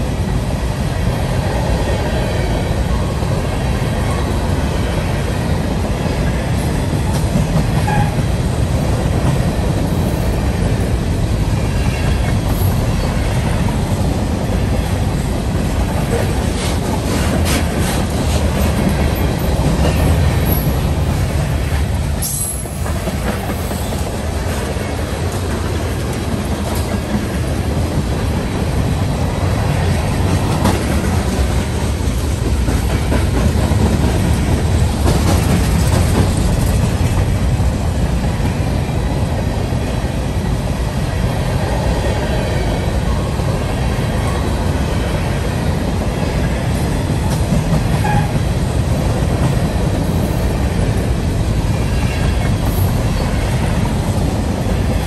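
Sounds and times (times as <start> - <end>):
rail clicks: 0.0 - 55.0
railcars rumbling on track: 0.0 - 55.0.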